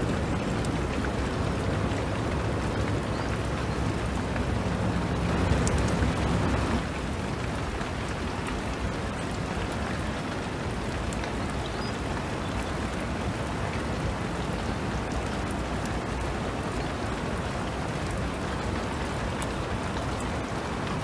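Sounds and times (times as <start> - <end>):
faint drip ticks: 0.0 - 21.0
steady rain hiss: 0.0 - 21.0.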